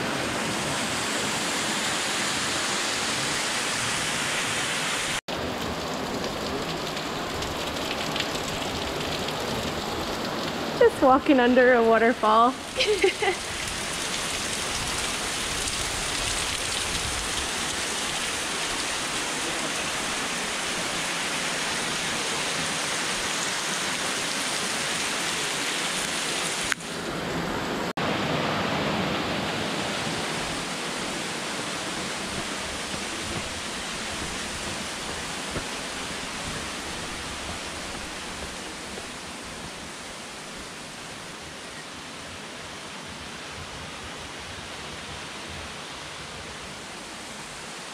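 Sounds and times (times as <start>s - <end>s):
waterfall rushing in gorge: 0.0s - 10.8s, 17.4s - 47.9s.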